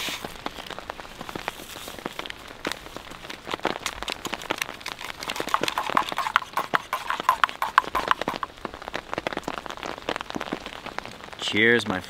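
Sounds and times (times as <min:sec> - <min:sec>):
freezing rain pattering on tent: 0:00.0 - 0:12.0.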